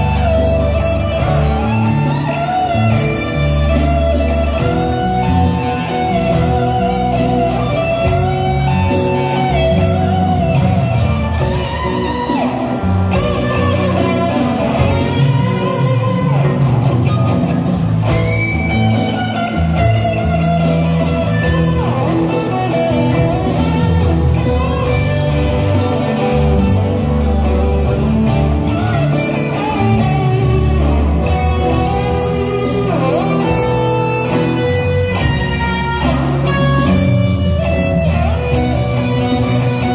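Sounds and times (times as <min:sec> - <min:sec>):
bass guitar: 0:00.0 - 0:39.9
drum kit: 0:00.0 - 0:39.9
electric guitars: 0:00.0 - 0:39.9
keyboard: 0:00.0 - 0:39.9.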